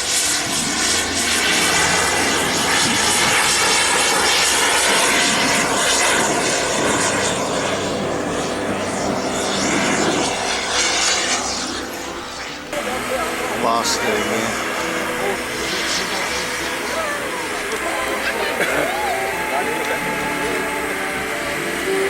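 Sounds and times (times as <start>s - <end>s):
model jet turbine whine: 0.0s - 22.0s.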